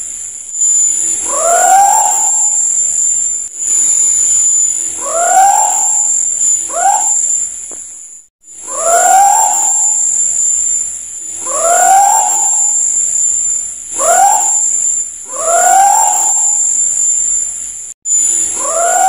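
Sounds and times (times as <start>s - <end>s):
high-pitched insect drone: 0.0s - 19.0s
owl hooting: 0.6s - 7.8s, 8.6s - 17.6s, 18.2s - 19.0s.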